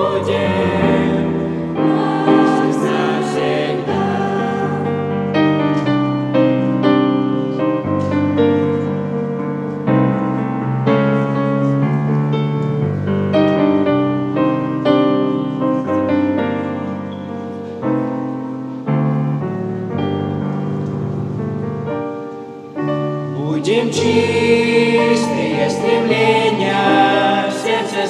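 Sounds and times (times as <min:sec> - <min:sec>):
piano playing hymn chords: 0:00.0 - 0:28.0.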